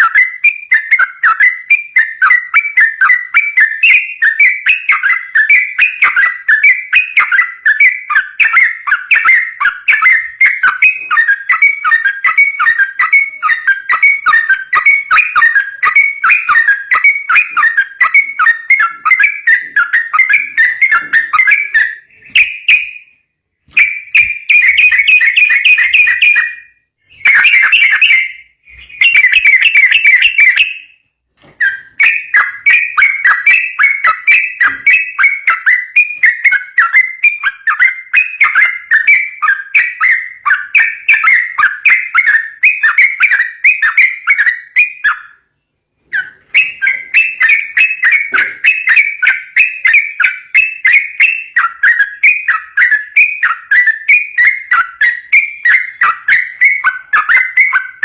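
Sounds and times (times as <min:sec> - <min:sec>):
bird singing fast whistled notes: 0:00.0 - 0:58.0.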